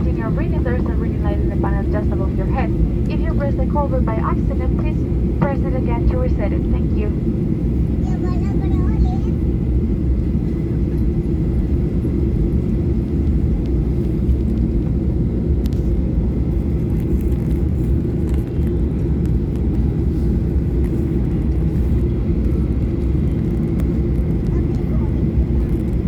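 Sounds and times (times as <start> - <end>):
low engine rumble in cabin: 0.0 - 26.0.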